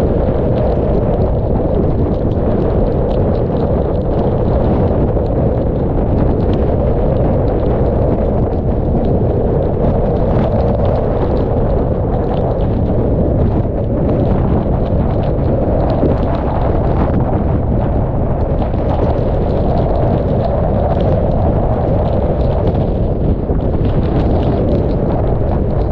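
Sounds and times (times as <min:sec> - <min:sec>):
rain spattering on camera: 0:00.0 - 0:25.9
wind buffeting microphone: 0:00.0 - 0:25.9.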